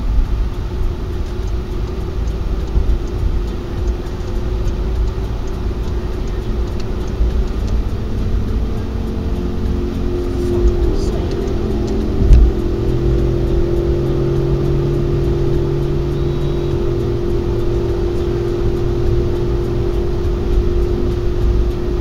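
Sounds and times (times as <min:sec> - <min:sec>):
car engine hum: 0:00.0 - 0:22.0
road rumble: 0:00.0 - 0:22.0.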